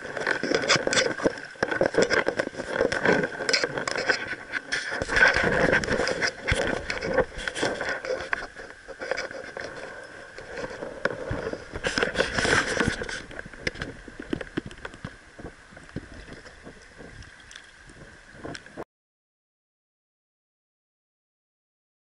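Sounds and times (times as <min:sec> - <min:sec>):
stream water gurgling: 0:00.0 - 0:18.8.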